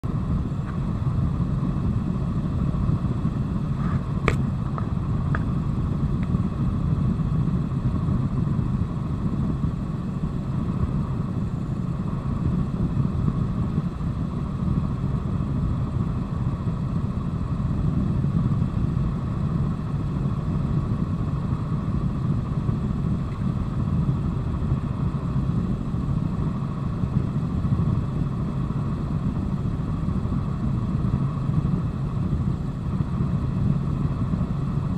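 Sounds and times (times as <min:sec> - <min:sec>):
helicopter engine and rotor noise: 0:00.0 - 0:34.9.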